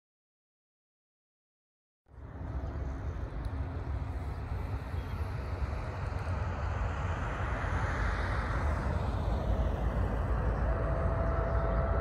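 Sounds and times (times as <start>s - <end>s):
distant jet airliner roar: 2.1s - 12.0s.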